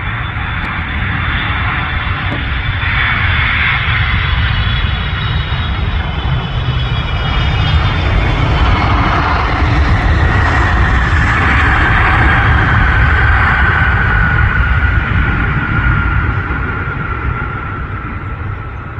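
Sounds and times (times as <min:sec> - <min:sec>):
jet engines whining and rumbling: 0:00.0 - 0:18.9.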